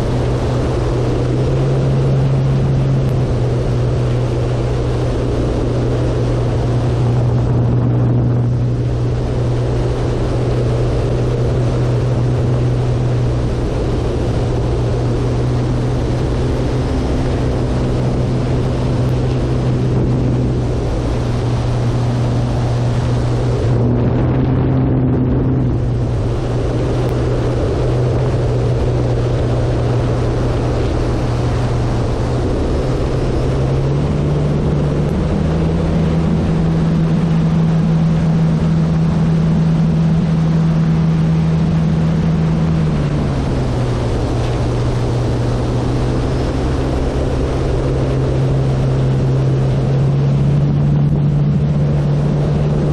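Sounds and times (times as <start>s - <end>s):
model airplane motor drone: 0.0s - 52.9s
wind rush: 0.0s - 52.9s.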